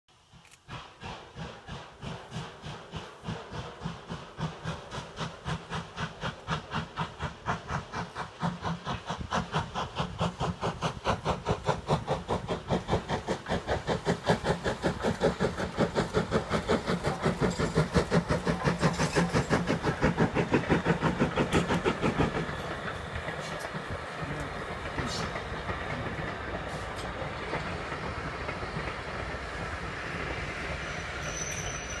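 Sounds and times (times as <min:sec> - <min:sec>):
steam locomotive exhaust beat: 0:00.1 - 0:32.0
train coaches rumbling past: 0:00.2 - 0:32.0.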